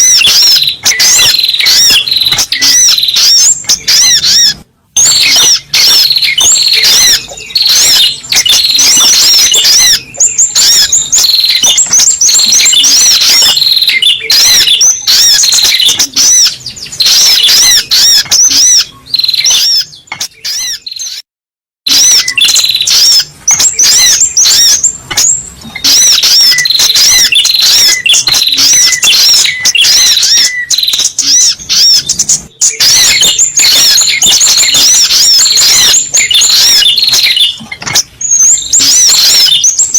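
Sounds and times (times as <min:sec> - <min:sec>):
bird chirping and twittering: 0:00.0 - 0:21.3, 0:21.9 - 0:39.9.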